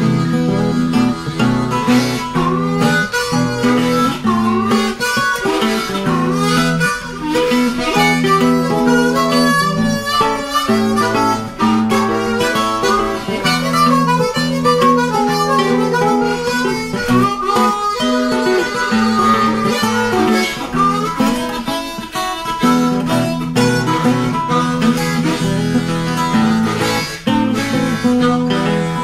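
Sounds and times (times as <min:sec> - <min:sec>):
acoustic guitar: 0:00.0 - 0:29.0
harmonica playing: 0:00.0 - 0:29.0.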